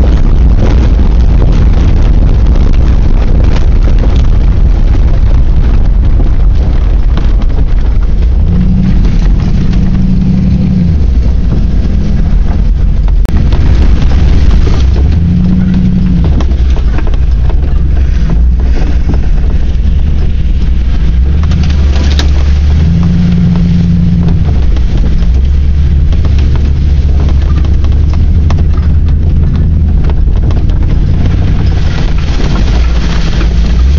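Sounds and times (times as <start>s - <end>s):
rumbling engine and drivetrain: 0.0s - 33.9s.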